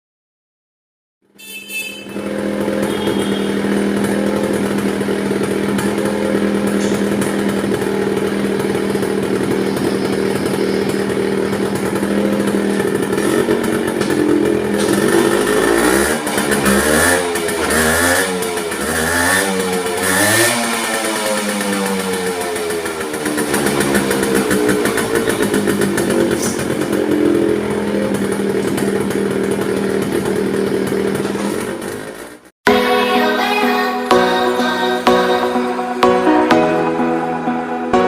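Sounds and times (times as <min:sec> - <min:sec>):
engine throttle blips: 0:01.3 - 0:32.5
two-stroke motorcycle engine idling: 0:01.3 - 0:32.5.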